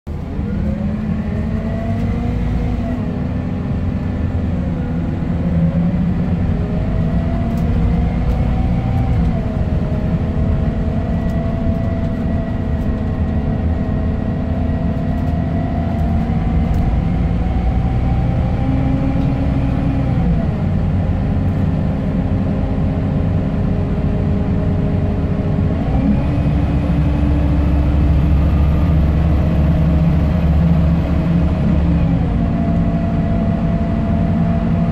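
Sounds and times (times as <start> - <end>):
bus diesel engine whining: 0.1 - 34.9
road noise: 0.1 - 34.9.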